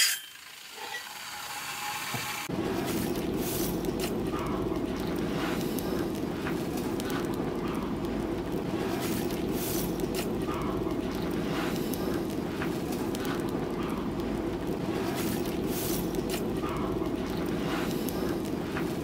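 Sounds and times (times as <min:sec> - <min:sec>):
forge fire under air blast: 0:00.4 - 0:19.0.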